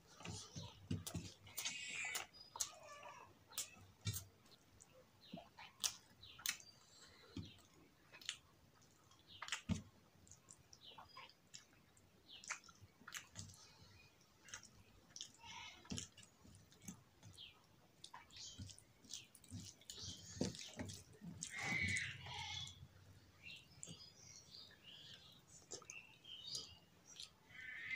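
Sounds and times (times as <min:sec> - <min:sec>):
chewing and mouth clicks: 0:00.1 - 0:22.8, 0:23.4 - 0:27.4.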